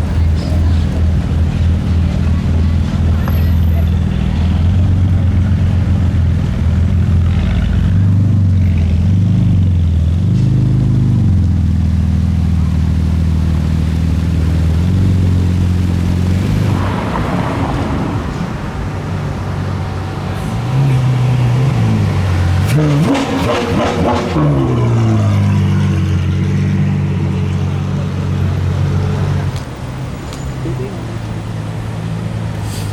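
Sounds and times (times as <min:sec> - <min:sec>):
car engines idling and revving: 0:00.0 - 0:32.9.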